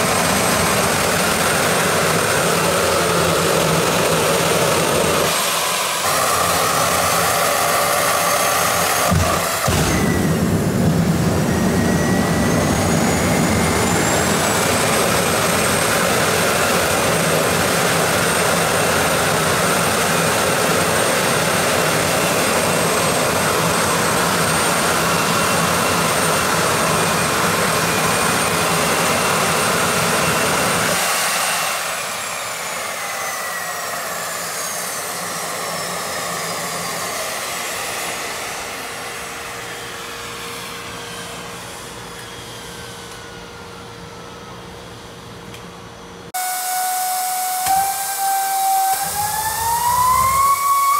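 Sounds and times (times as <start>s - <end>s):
jet engine roaring with turbine whine: 0.0s - 50.9s.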